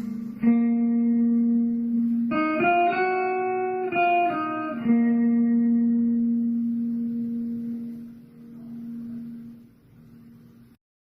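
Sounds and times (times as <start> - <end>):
slow plucked guitar: 0.0 - 10.8.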